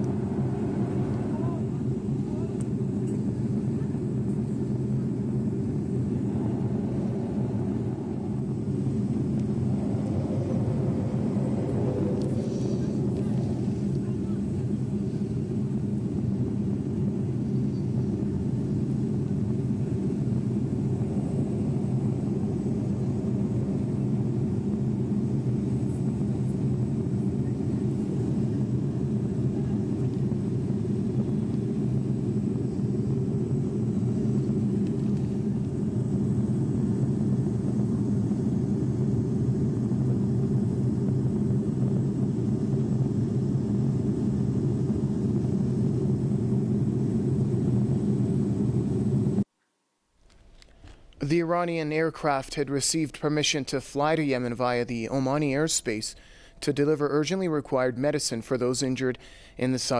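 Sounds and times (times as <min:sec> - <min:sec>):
airliner engine drone: 0:00.0 - 0:49.5, 0:50.3 - 0:59.9.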